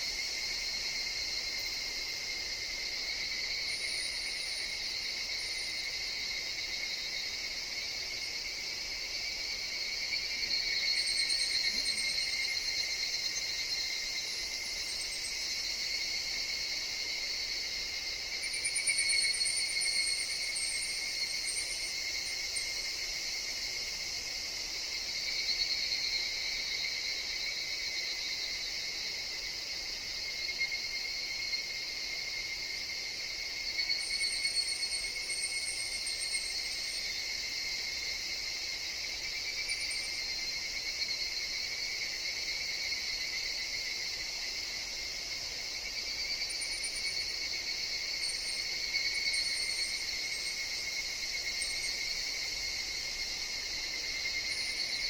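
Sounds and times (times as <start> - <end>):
cicadas droning: 0.0 - 55.0
high insect trills: 0.0 - 55.0.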